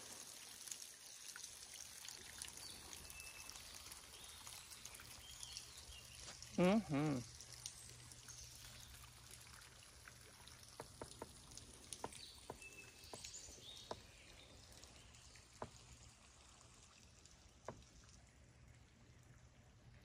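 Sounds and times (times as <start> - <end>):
quiet river background: 0.0 - 20.0
water dripping from paddle: 0.0 - 20.0.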